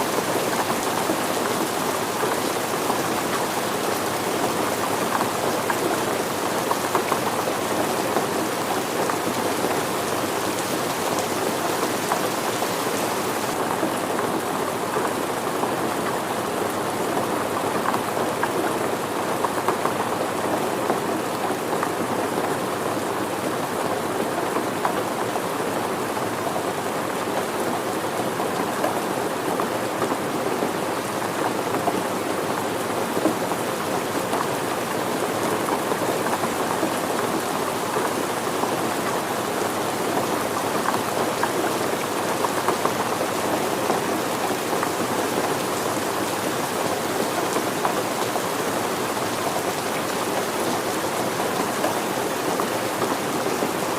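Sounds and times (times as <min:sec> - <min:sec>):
rain pattering on surfaces: 0:00.0 - 0:53.9.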